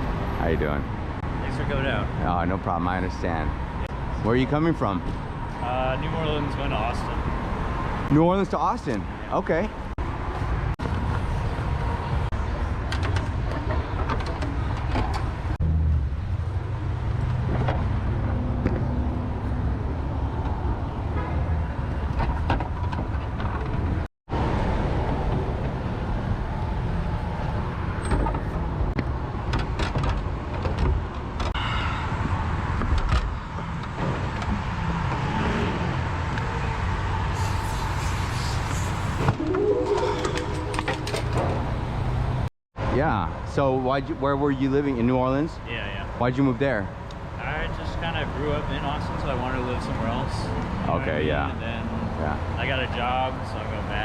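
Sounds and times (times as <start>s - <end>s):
traffic rumble: 0.0s - 39.4s, 40.5s - 54.0s.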